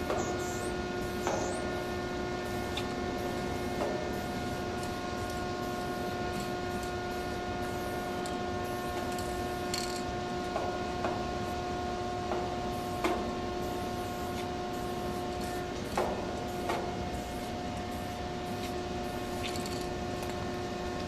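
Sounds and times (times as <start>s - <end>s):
steady pitched hum: 0.0s - 21.0s.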